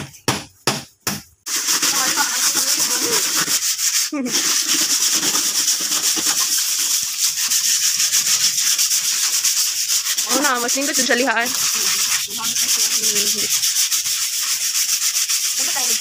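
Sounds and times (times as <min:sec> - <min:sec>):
sandpaper scratching wood: 0:01.5 - 0:16.0.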